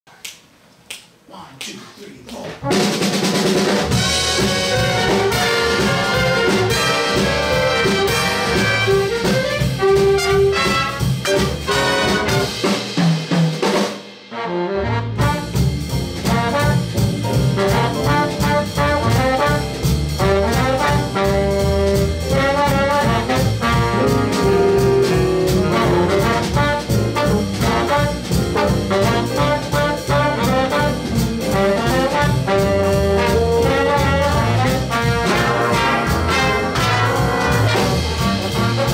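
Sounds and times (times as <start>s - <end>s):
jazz big band playing swing: 2.3s - 38.9s.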